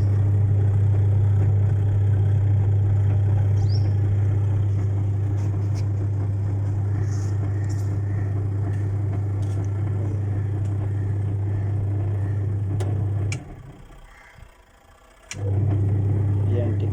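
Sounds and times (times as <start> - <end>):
washing machine motor hum: 0.0 - 16.9.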